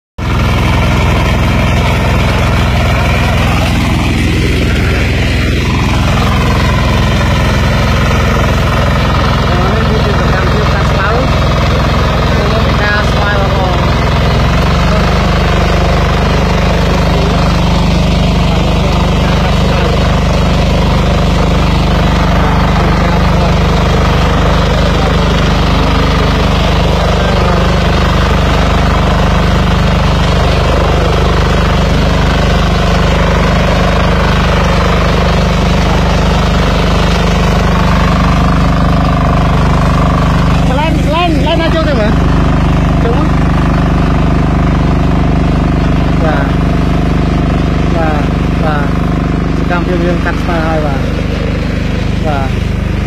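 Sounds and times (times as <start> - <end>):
cutter bar mowing grass: 0.2 - 53.0
walk-behind tractor engine running: 0.2 - 53.0.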